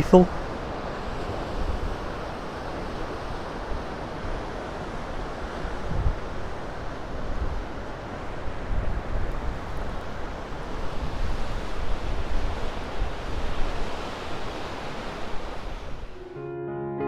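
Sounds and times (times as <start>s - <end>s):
sea surf breaking: 0.0s - 16.4s
gusty wind buffeting microphone: 0.3s - 16.2s.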